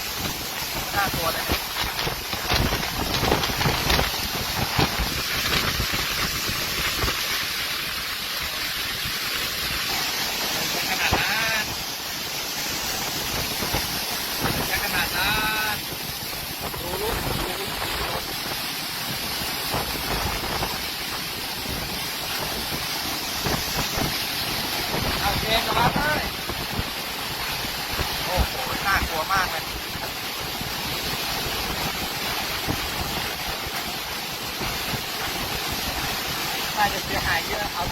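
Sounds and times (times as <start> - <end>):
storm wind buffeting microphone: 0.0 - 9.9, 12.5 - 37.9.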